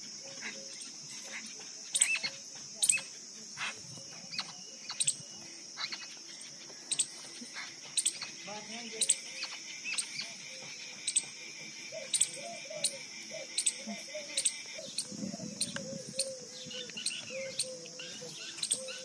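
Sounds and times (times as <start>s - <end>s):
high-pitched insect buzzing: 1.9s - 19.0s.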